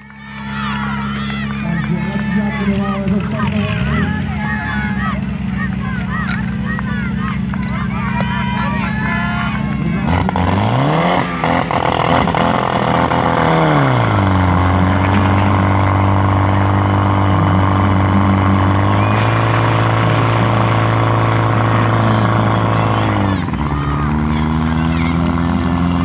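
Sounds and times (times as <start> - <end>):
fire pump engine running hard: 0.0 - 26.0.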